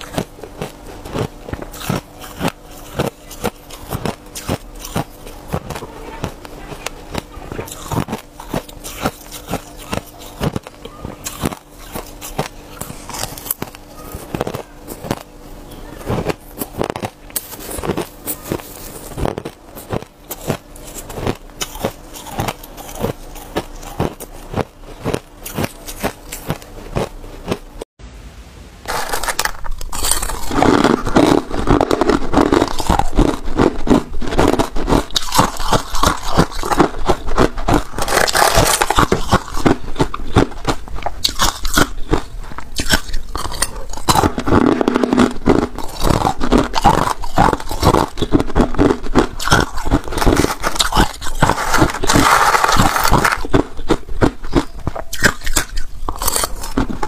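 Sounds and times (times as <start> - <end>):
ice being chewed: 0.0 - 27.8, 28.9 - 57.0.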